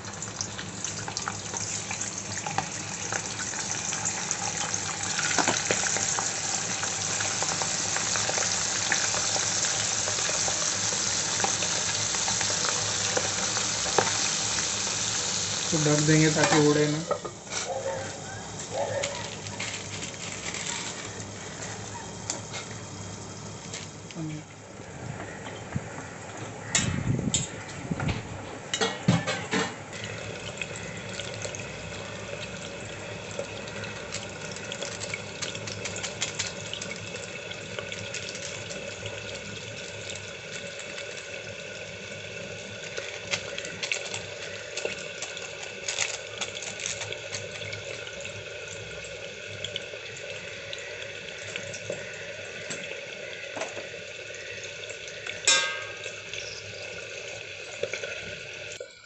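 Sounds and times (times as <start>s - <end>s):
water boiling in a pot: 0.0s - 26.8s, 28.9s - 59.0s.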